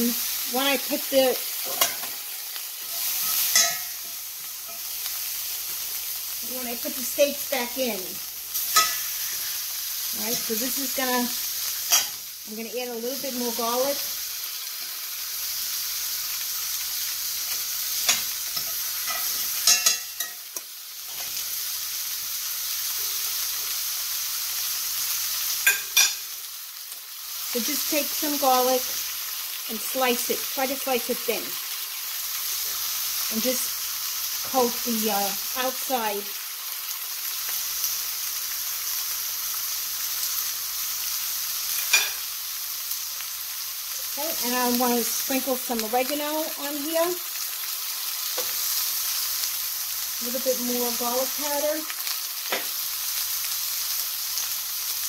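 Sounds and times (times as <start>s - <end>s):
steak sizzling in a skillet: 0.0s - 55.0s.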